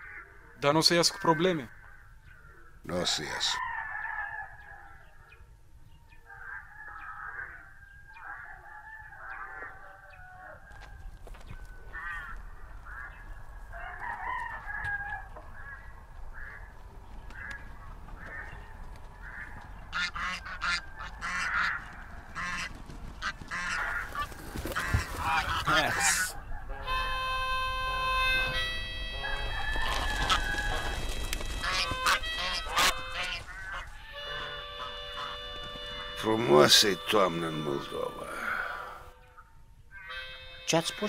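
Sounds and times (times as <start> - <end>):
geese honking and cackling: 6.3 - 41.0.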